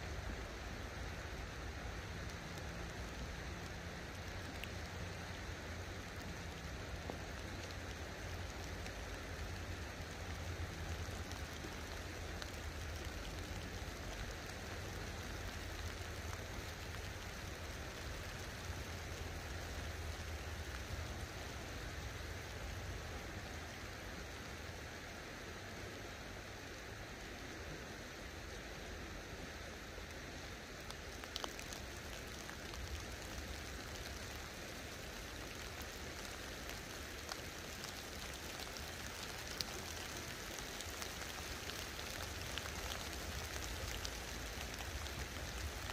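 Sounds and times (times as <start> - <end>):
light rain on water: 0.0 - 45.9.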